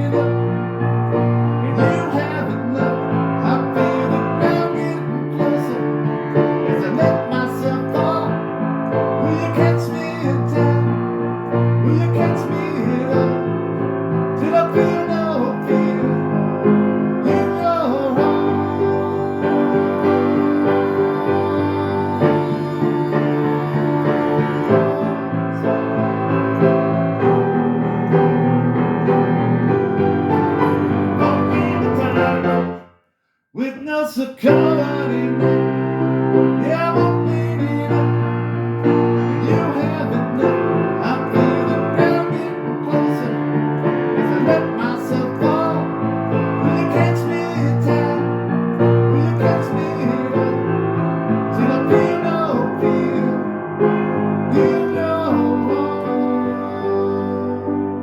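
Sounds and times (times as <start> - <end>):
piano playing sustained chords: 0.0 - 32.8, 34.6 - 58.0.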